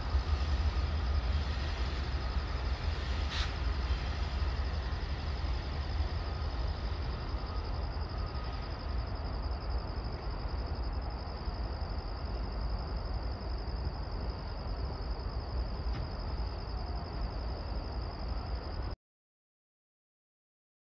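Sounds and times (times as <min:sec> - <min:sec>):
distant train rumbling: 0:00.0 - 0:19.0.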